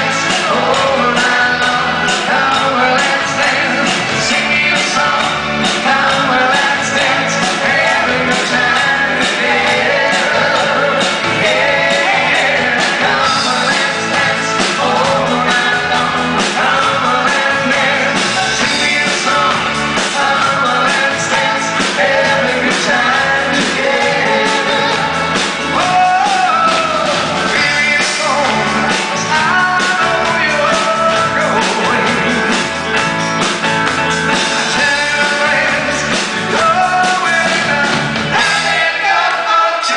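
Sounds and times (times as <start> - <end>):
live pop-rock band: 0.0 - 39.9
man singing lead vocals: 0.0 - 39.9.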